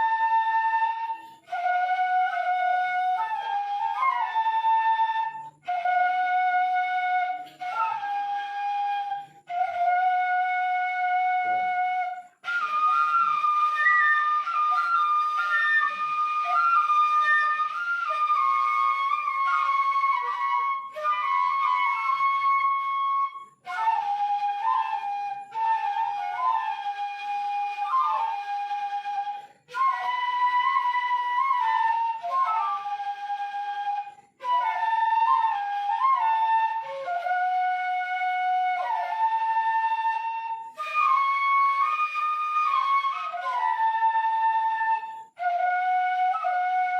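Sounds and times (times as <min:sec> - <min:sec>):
bamboo flutes playing melody: 0:00.0 - 0:46.9.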